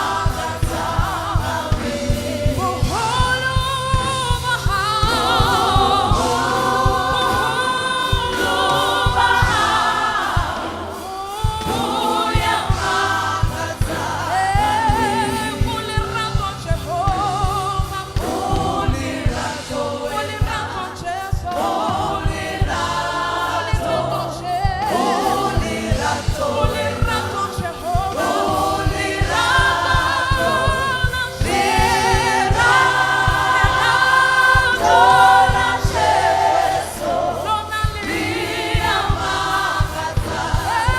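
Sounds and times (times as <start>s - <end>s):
gospel choir singing: 0.0s - 40.9s
instrumental backing with beat: 0.0s - 40.9s.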